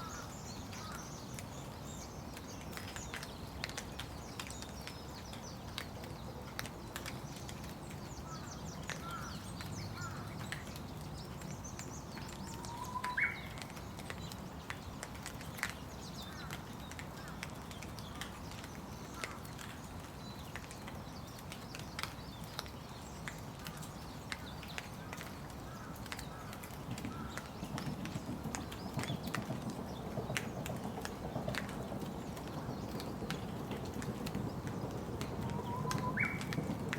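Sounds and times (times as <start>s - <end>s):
light rain falling: 0.0s - 36.9s
small birds chirping: 0.0s - 36.9s.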